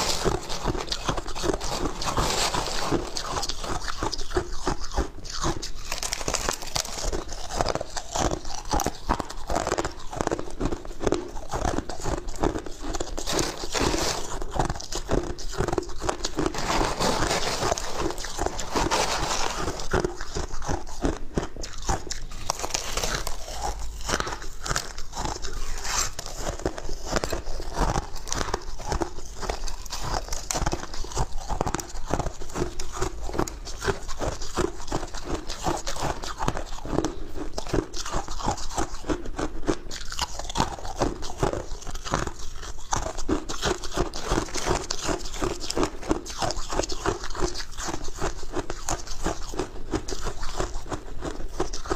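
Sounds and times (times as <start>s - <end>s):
person chewing crushed ice: 0.0s - 51.9s.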